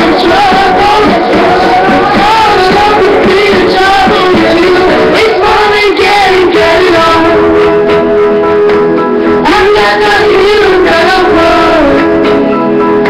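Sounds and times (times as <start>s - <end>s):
boy singing along: 0.0s - 7.6s, 9.4s - 12.4s
pop song: 0.0s - 13.0s.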